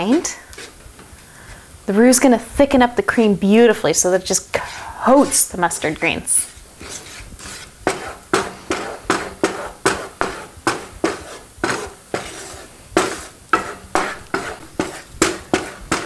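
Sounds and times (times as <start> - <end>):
wooden spatula scraping a skillet: 0.0 - 1.6, 4.3 - 16.0.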